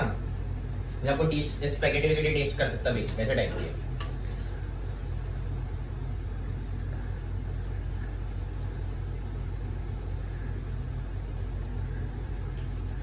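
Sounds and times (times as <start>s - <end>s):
low rumbling hum: 0.0s - 13.0s.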